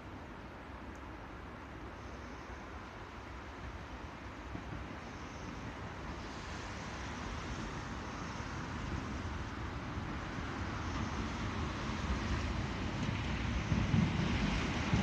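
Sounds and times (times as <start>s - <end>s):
train wheels rumbling on track: 0.0s - 15.0s
train rushing noise: 1.4s - 15.0s.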